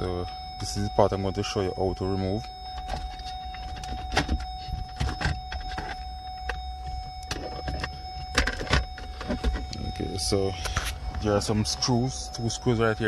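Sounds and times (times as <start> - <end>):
thin steady tone: 0.0 - 13.0.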